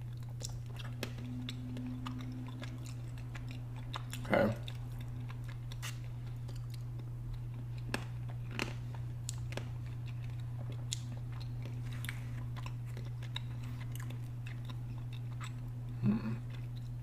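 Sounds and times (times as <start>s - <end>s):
person chewing with crunches: 0.0s - 17.0s
steady low hum: 0.0s - 17.0s.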